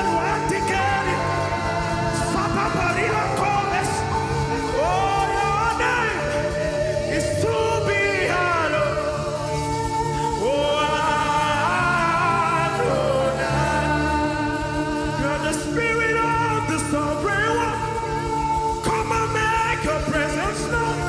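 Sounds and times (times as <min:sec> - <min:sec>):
gospel band playing: 0:00.0 - 0:21.0.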